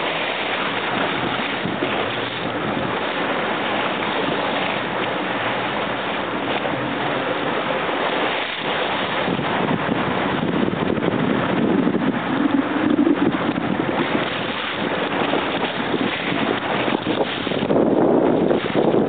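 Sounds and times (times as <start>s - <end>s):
wind noise on microphone: 0.0s - 5.1s, 5.7s - 19.0s
choppy water splashing: 0.0s - 19.0s.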